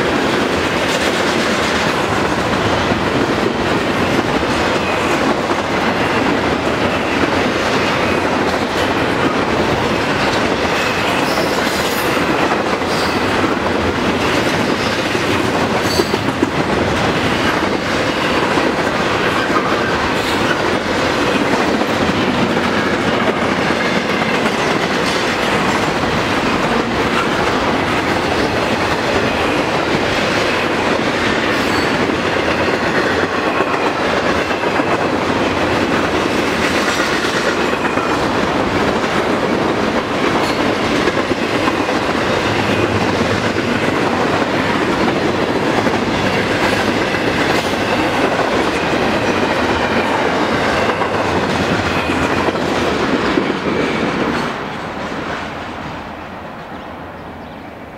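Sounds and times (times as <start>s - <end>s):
train wheels rumbling on rails: 0.0s - 57.7s.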